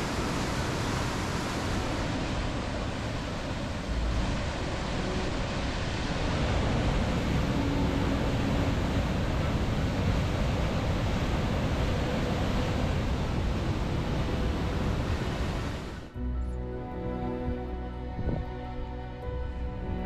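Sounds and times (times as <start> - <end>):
river rushing over rocks: 0.0 - 16.2.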